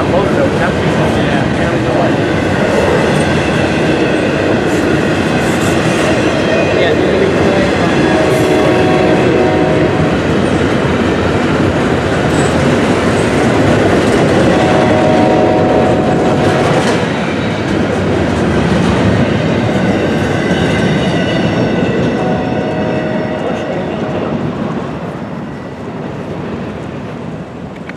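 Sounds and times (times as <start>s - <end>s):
clickety-clack over rail joints: 0.0s - 27.9s
steady tones from train wheels: 0.0s - 27.9s
train wheels rumbling on rails: 0.0s - 27.9s.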